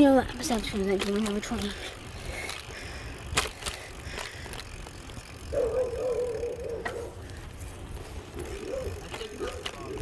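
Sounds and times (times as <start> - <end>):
bicycle rattles and clicks: 0.0 - 10.0
wind and tyres rumbling: 0.0 - 10.0.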